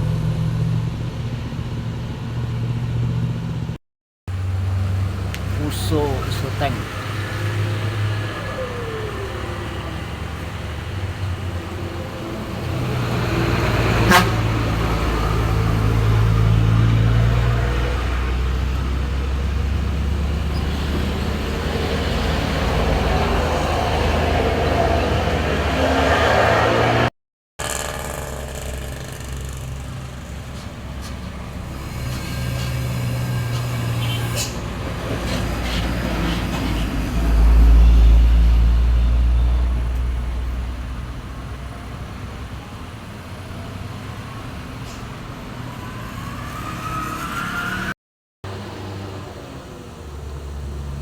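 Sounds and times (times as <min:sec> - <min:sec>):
truck diesel engine labouring: 0:00.0 - 0:51.0.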